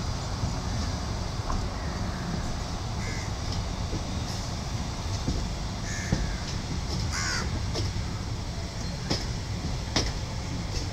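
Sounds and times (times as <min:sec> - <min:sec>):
train rumbling: 0:00.0 - 0:10.9.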